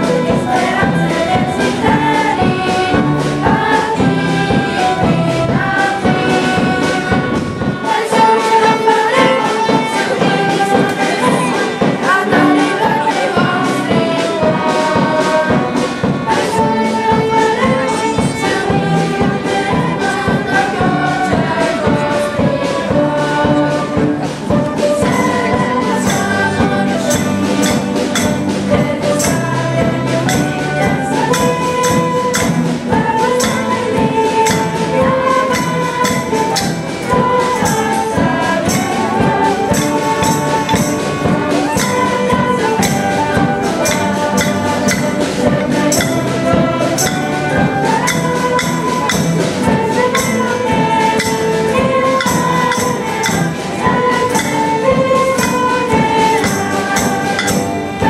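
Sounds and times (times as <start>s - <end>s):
acoustic guitars: 0.0s - 58.0s
choir singing: 0.0s - 58.0s
flutes: 0.0s - 58.0s
percussion beat: 0.0s - 58.0s
violins and cellos: 0.0s - 58.0s.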